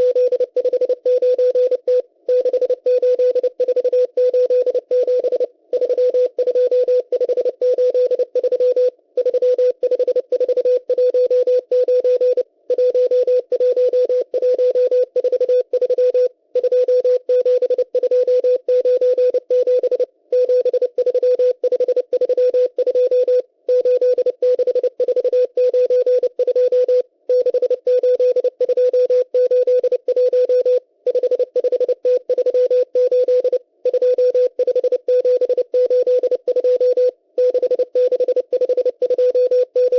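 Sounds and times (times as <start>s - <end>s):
morse code beeping: 0.0s - 39.9s.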